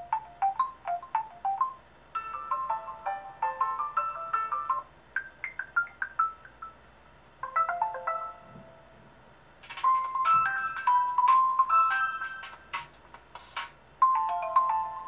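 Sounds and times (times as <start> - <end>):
bright ringtone: 0.0 - 6.8, 7.4 - 8.9, 9.6 - 12.9, 14.0 - 15.0
phone ringtone melodies: 0.0 - 6.8, 7.4 - 9.0, 9.6 - 12.9, 14.0 - 15.0.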